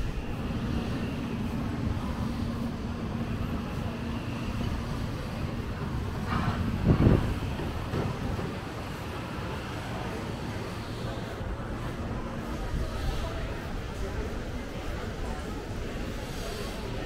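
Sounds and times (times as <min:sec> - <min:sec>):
busy market rumble: 0:00.0 - 0:17.0.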